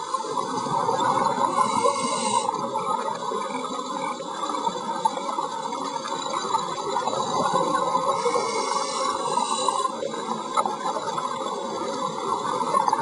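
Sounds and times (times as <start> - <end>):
crackling underwater noise: 0.0 - 13.0.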